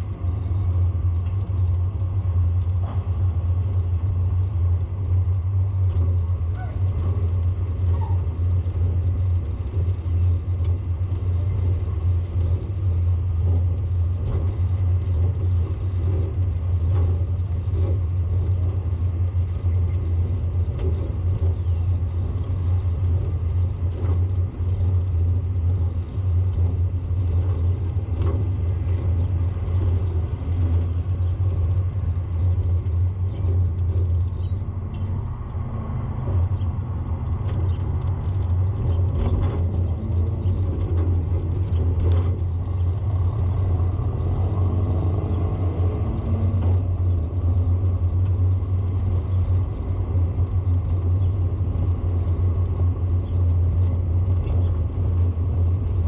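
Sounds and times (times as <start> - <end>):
road noise: 0.0 - 56.0
vehicle rumbling in motion: 0.0 - 56.0.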